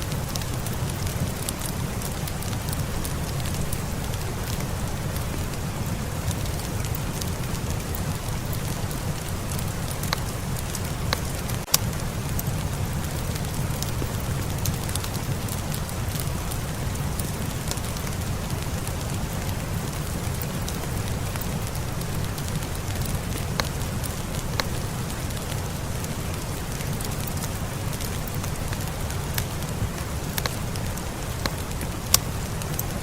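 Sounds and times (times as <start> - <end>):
fire crackling and popping: 0.0 - 33.0
steady rain hiss: 0.0 - 33.0.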